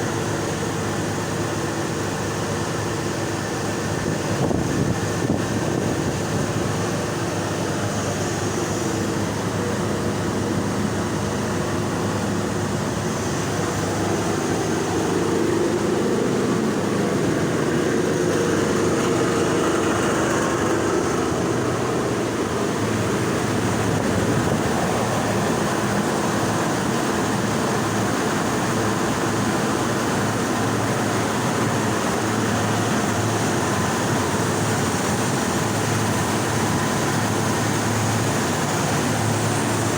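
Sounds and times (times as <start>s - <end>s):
boiler mechanical running noise: 0.0s - 39.9s.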